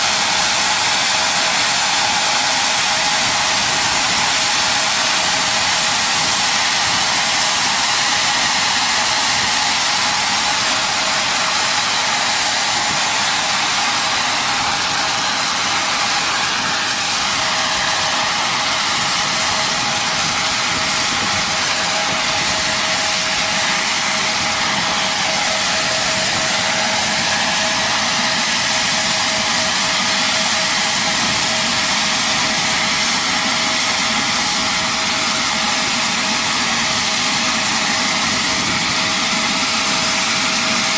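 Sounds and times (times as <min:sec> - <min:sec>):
engine hiss and whine: 0:00.0 - 0:40.9.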